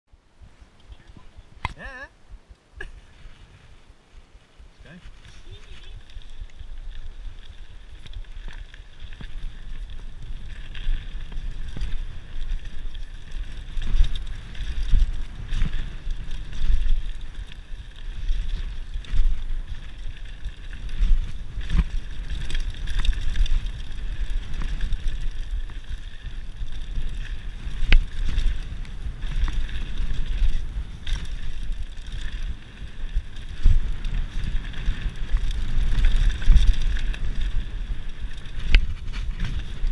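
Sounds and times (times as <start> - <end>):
wind buffeting microphone: 0.1 - 39.9.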